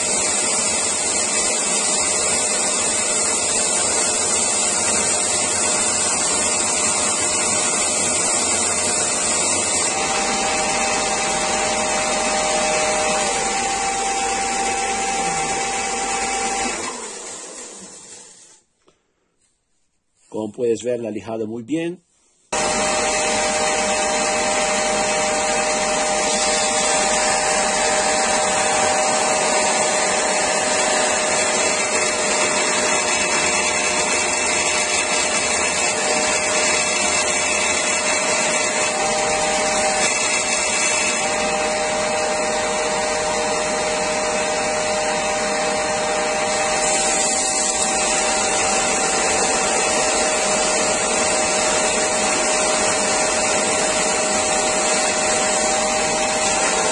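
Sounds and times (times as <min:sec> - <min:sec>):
belt sander sanding wood: 0:00.0 - 0:18.7, 0:22.4 - 0:56.9.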